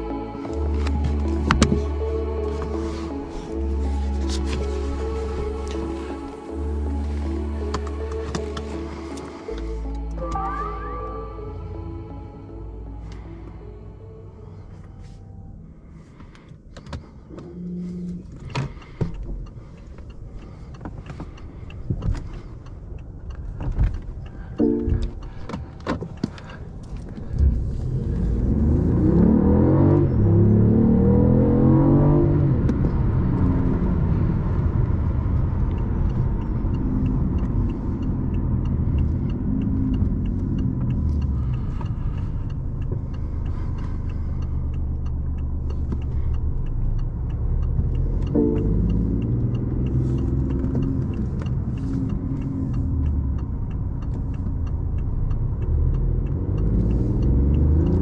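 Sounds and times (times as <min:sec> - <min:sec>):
car engine heard from inside cabin: 0:00.0 - 0:58.0.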